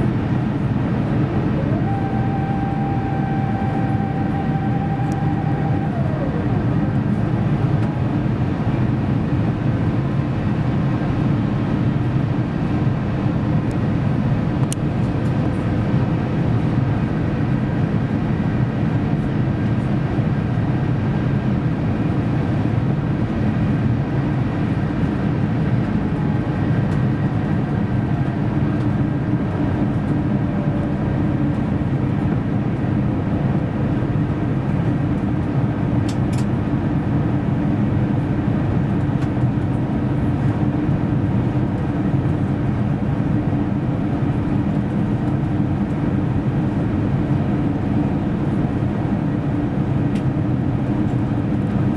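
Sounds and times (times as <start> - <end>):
low rumble of jet engines: 0.0 - 51.9.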